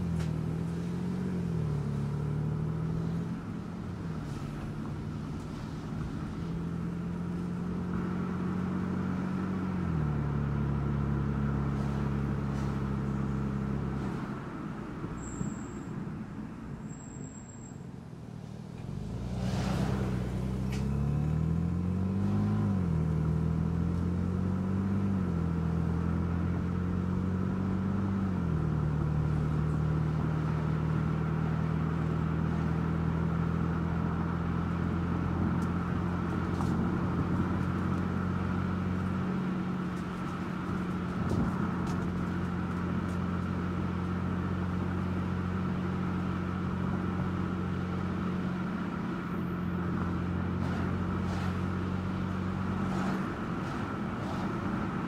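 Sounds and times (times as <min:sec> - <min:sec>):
car engine accelerating: 0:00.0 - 0:15.5, 0:18.7 - 0:55.0
road noise: 0:00.0 - 0:55.0.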